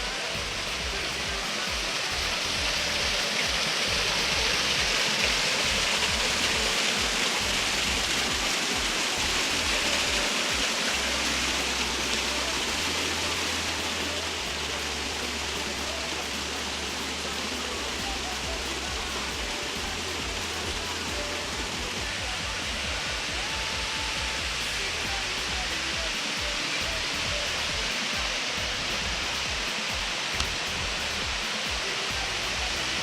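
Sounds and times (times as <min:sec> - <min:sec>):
waterfall pouring into pool: 0:00.0 - 0:33.0.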